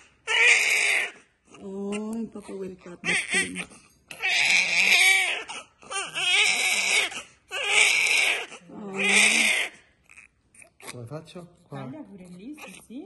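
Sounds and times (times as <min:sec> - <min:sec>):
newborn baby crying: 0:00.0 - 0:11.0, 0:12.5 - 0:12.9.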